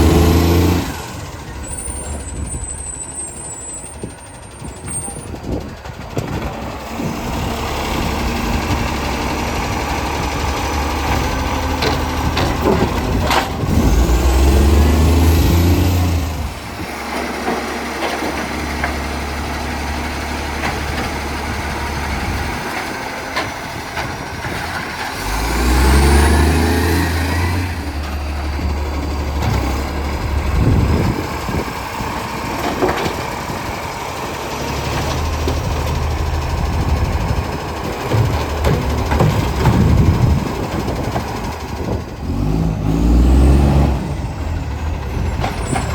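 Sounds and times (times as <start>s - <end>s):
diesel engine roaring: 0.0s - 45.9s.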